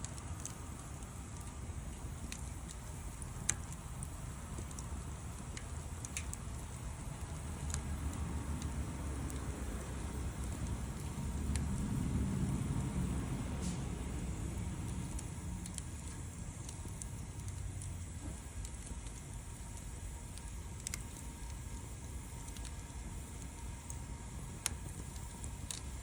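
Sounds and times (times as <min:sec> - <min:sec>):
low rumble of fire: 0:00.0 - 0:26.0
sharp pops of fire: 0:00.0 - 0:26.0
wood fire crackling: 0:00.0 - 0:26.0.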